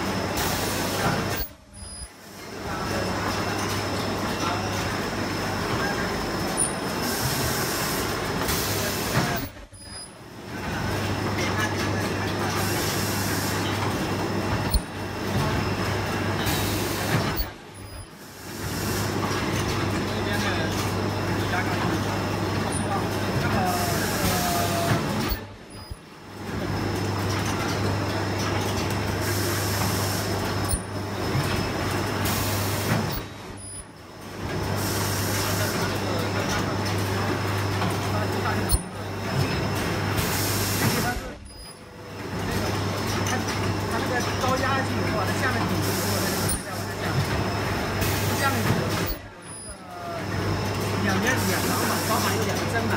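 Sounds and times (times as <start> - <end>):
film-cutting machine running: 0.0 - 52.9.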